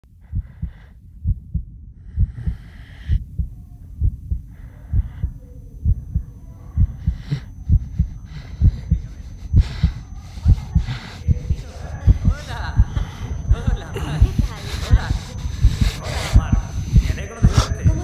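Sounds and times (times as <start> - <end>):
heartbeat thumps: 0.0 - 18.0
soft breathy hiss: 2.0 - 18.0.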